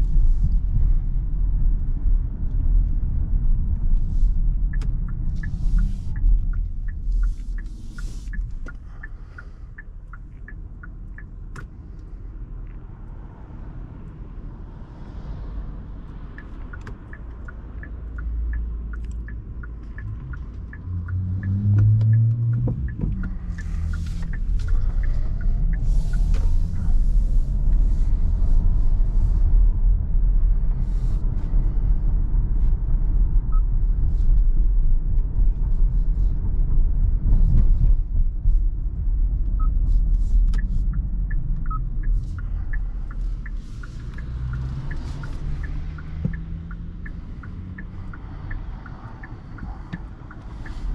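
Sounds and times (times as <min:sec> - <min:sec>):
car engine and road rumble: 0:00.0 - 0:50.9
turn signal ticking: 0:00.0 - 0:50.9.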